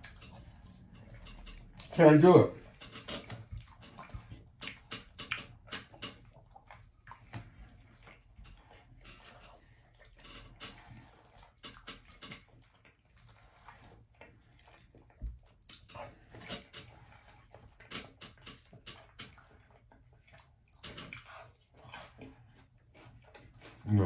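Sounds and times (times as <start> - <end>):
wet chewing and lip-smacking: 0.0 - 2.0, 2.6 - 23.9.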